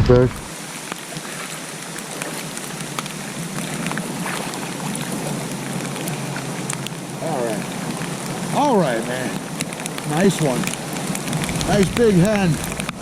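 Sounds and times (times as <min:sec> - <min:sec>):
close raindrop ticks: 0:00.0 - 0:13.0
light rain hissing: 0:00.0 - 0:13.0.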